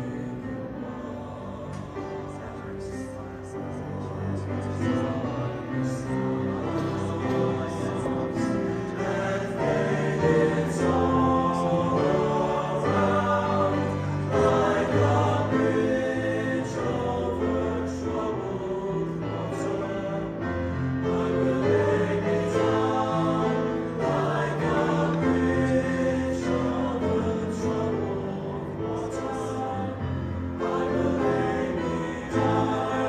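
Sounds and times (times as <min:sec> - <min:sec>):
male choir singing in harmony: 0:00.0 - 0:33.0.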